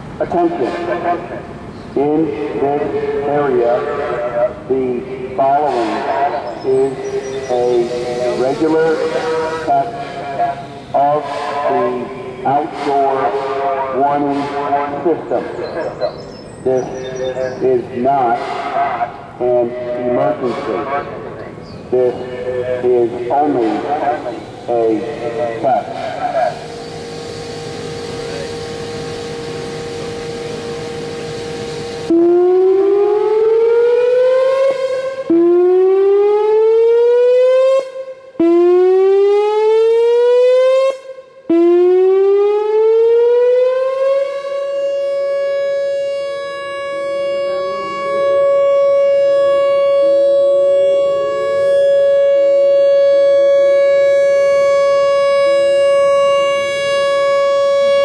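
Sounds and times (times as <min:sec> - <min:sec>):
outdoor warning siren: 0:00.0 - 0:58.0.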